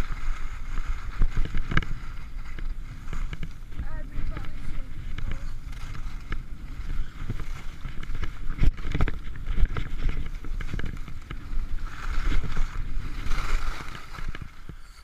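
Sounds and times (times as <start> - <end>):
skis knocking over bumps: 0.0 - 14.8
skis scraping over packed snow: 0.0 - 15.0
wind rumble: 0.0 - 15.0.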